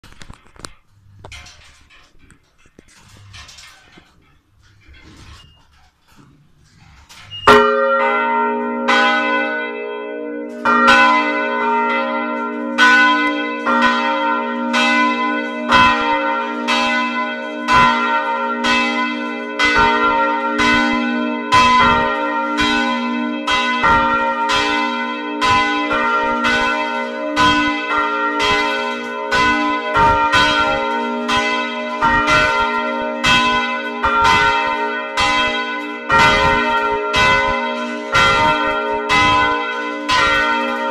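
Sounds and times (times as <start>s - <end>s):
church bells ringing: 0.1s - 40.9s
low hum of bells: 0.8s - 40.9s.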